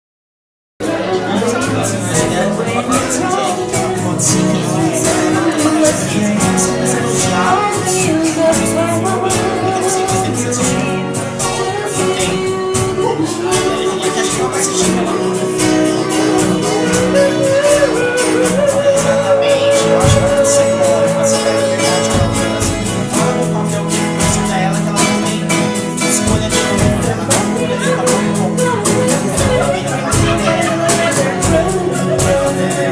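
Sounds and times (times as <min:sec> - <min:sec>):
acoustic guitars: 0:00.8 - 0:32.9
hand percussion: 0:00.8 - 0:32.9.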